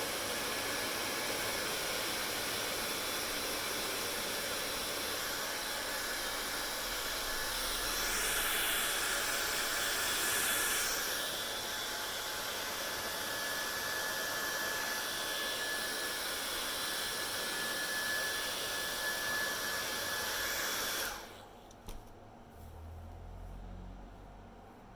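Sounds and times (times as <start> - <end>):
hair dryer blowing: 0.0 - 21.6.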